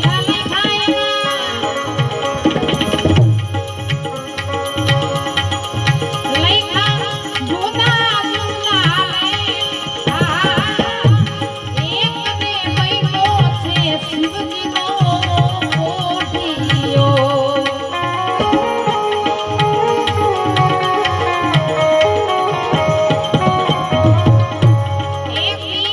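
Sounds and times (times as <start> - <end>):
hand drum rhythm: 0.0 - 25.9
wavering ornamented melody: 0.0 - 25.9.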